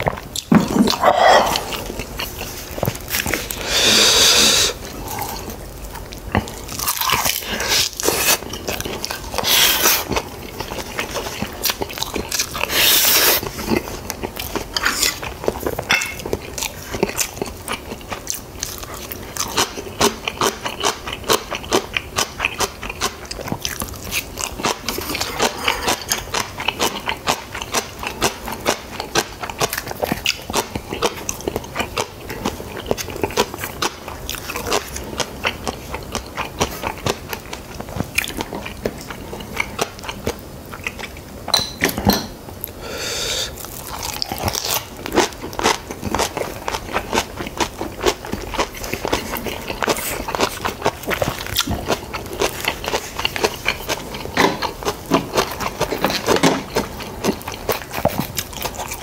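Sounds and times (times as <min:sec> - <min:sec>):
person chewing and crunching food: 0:00.0 - 0:41.6, 0:42.5 - 0:59.0.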